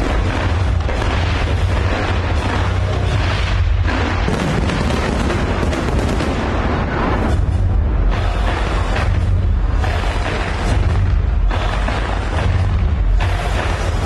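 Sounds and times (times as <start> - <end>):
fireworks booming and crackling: 0.0 - 14.0.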